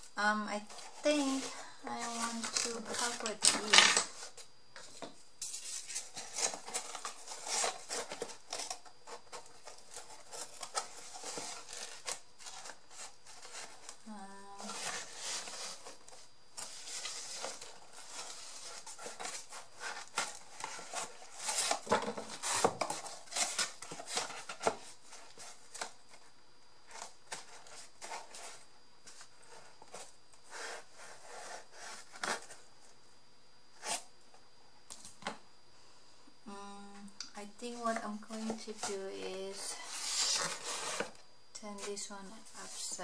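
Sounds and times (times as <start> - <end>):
paper and card rustling: 0.4 - 32.6, 37.7 - 43.0.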